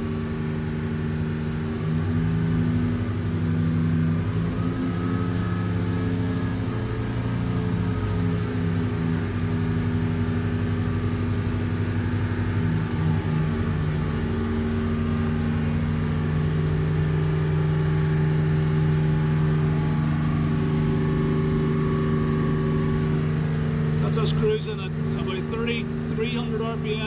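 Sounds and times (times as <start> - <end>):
diesel boat engines running: 0.0 - 27.0.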